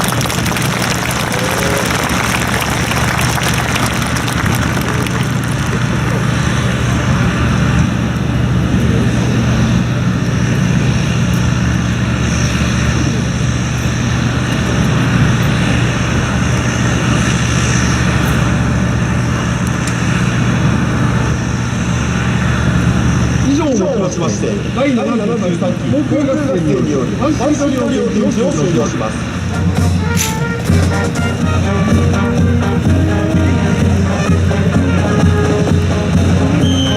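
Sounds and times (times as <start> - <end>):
aircraft engine drone: 0.0 - 36.9.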